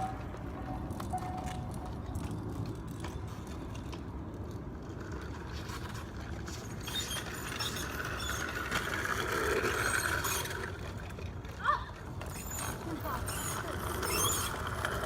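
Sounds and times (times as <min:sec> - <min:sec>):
electric dirt bike clicking and rattling: 0:00.0 - 0:15.0.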